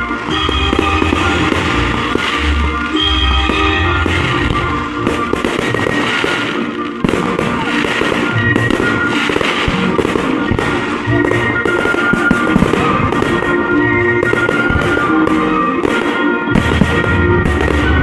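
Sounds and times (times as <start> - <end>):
classical music: 0.0 - 18.0
firework shells bursting and crackling: 0.0 - 18.0.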